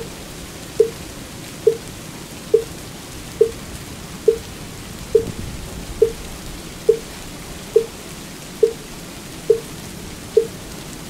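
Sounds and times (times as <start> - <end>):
rain patter: 0.0 - 11.0.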